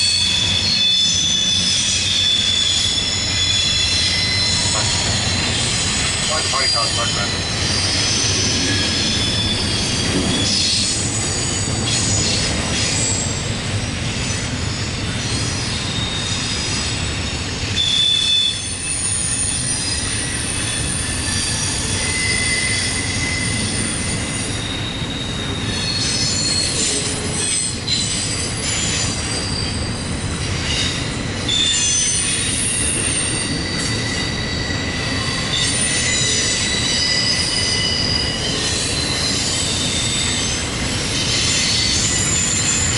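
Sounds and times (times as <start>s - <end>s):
train cars rumbling: 0.0s - 42.9s
train wheels squealing: 0.0s - 42.9s.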